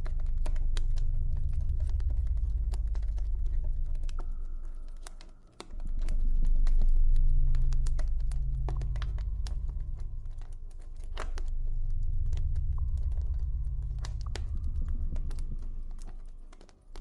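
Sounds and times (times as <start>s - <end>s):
deep low drone: 0.0s - 17.0s.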